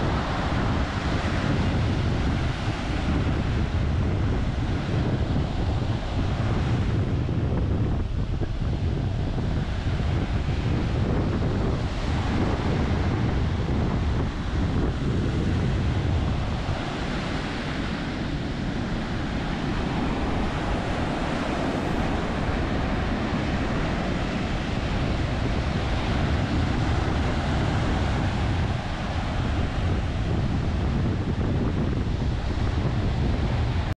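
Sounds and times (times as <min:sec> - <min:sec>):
ocean surf breaking: 0:00.0 - 0:33.9
wind buffeting microphone: 0:00.0 - 0:33.9.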